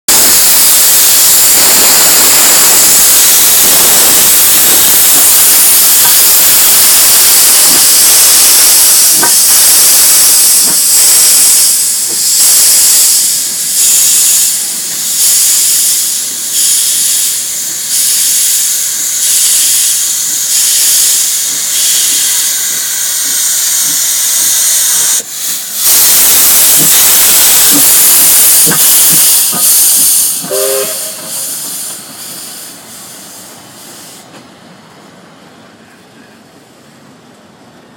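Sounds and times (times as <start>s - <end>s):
steam hissing: 0.1s - 34.4s
steam locomotive chuffing: 0.1s - 34.5s.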